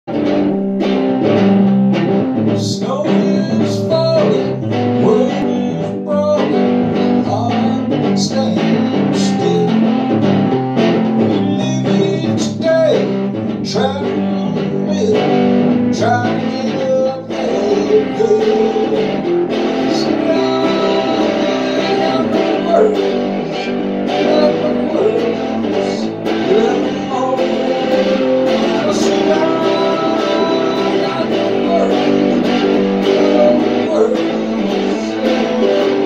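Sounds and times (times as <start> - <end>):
guitar strumming: 0.1 - 36.0
man singing: 2.5 - 36.0.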